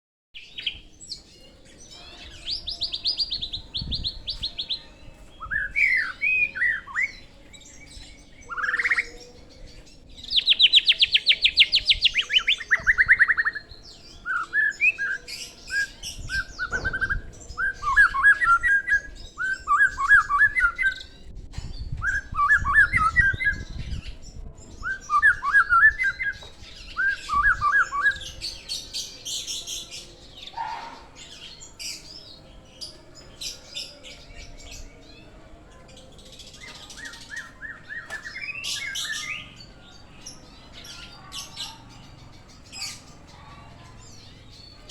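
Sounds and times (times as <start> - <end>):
bird singing trills and whistles: 0.4 - 43.2.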